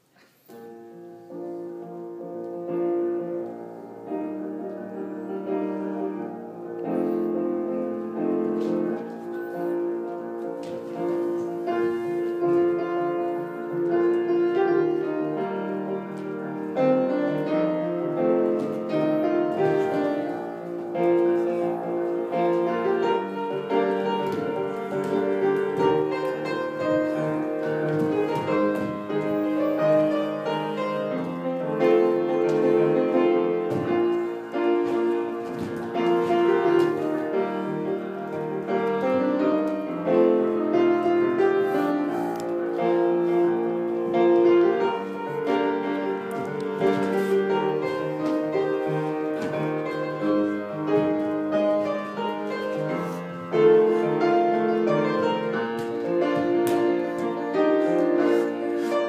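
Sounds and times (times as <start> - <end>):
piano music: 0.0 - 59.0.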